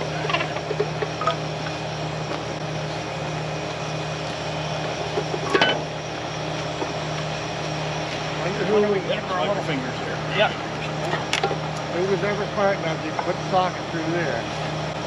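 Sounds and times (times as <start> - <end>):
crane engine idling: 0.0 - 15.0.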